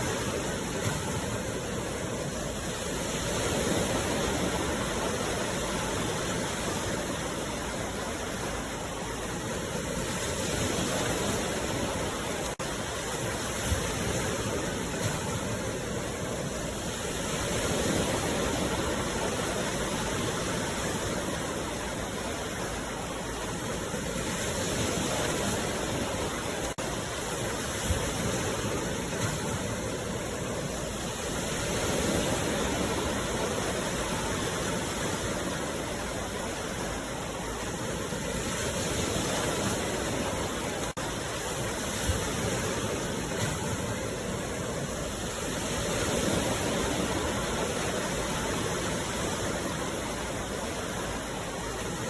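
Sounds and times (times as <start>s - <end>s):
waves washing onto shore: 0.0s - 52.0s.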